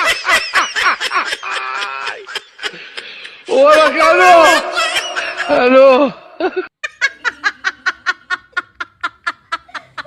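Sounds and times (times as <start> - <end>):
person laughing: 0.0 - 7.7, 8.3 - 10.0.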